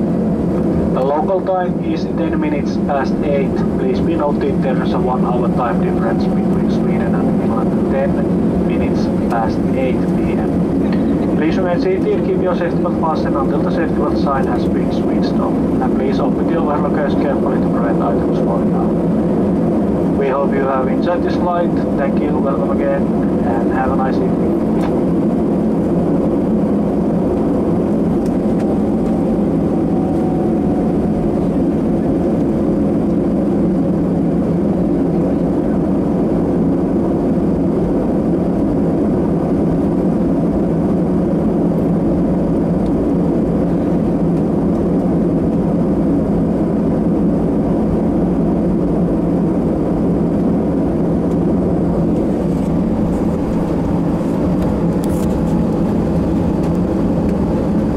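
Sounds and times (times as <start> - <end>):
dull cabin rumble: 0.0 - 57.9
jet engines at low thrust: 0.0 - 57.9.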